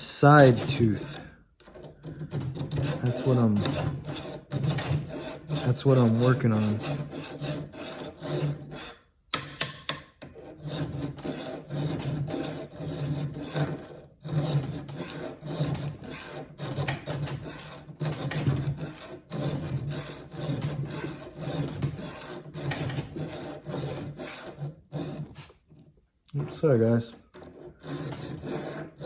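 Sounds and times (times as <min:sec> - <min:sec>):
hand file rasping on steel: 0:00.0 - 0:29.0.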